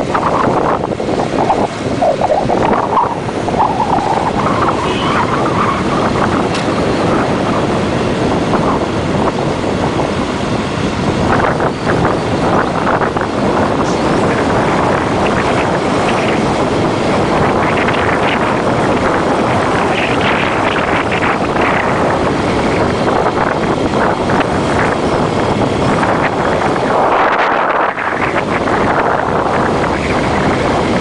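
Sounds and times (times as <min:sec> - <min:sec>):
road noise: 0:00.0 - 0:31.0
wind rushing on microphone: 0:00.0 - 0:31.0.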